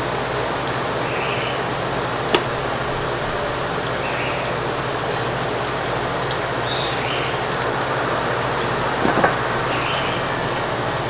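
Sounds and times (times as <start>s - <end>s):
background hiss and hum: 0.0s - 11.0s.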